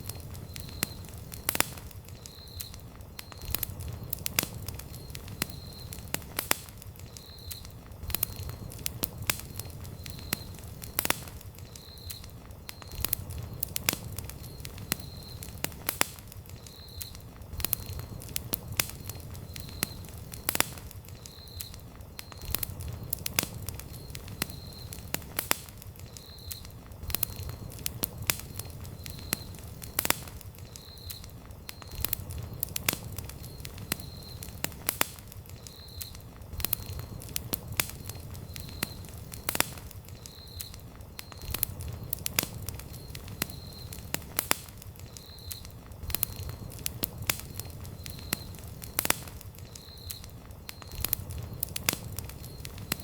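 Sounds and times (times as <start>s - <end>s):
campfire crackling and popping: 0.0s - 53.0s
low rumble of flames: 0.0s - 53.0s.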